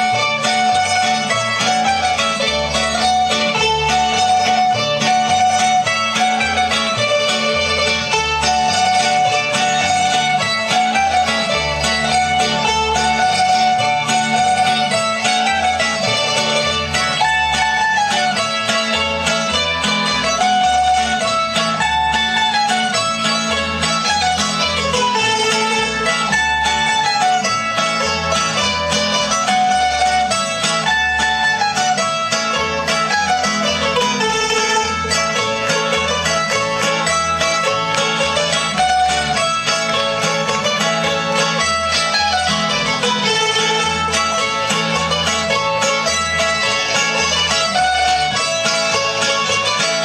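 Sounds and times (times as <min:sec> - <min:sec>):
folk dance music on plucked strings: 0:00.0 - 0:50.0.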